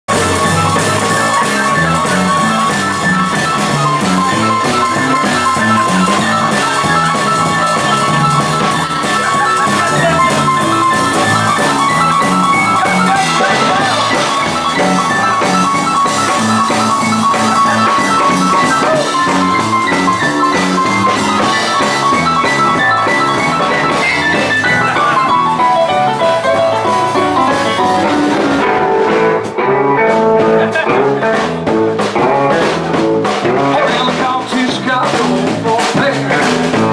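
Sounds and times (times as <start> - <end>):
drum kit: 0.1 - 36.9
piano: 0.1 - 36.9
rockabilly band playing: 0.1 - 36.9.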